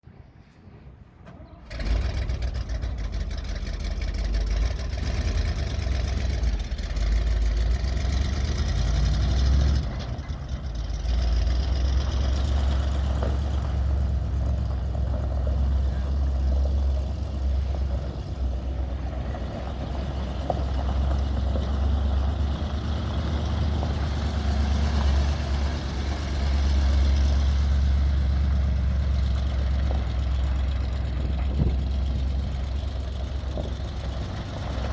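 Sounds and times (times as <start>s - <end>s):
truck engine starting and idling: 0.1s - 34.9s.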